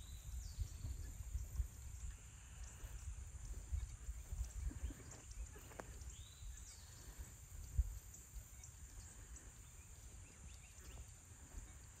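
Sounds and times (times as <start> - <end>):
bird chirps: 0.0 - 12.0
wind rumble on microphone: 0.0 - 12.0.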